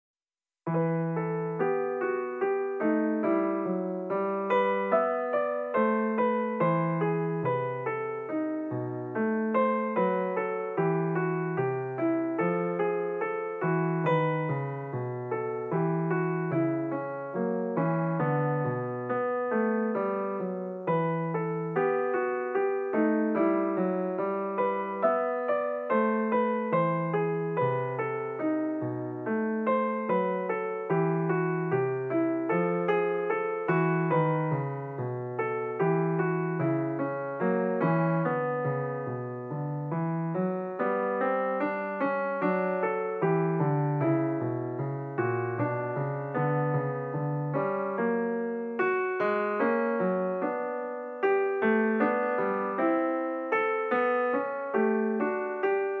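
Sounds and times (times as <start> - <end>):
piano music: 0.7 - 56.0.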